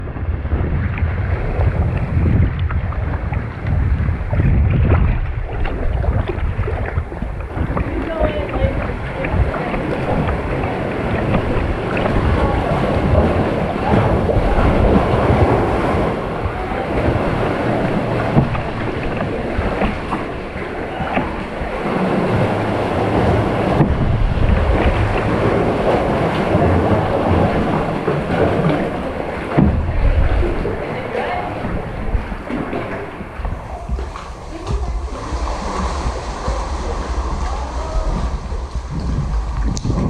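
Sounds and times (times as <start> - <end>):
water splashing around kayak: 0.0 - 40.0
wind buffeting microphone: 0.0 - 40.0.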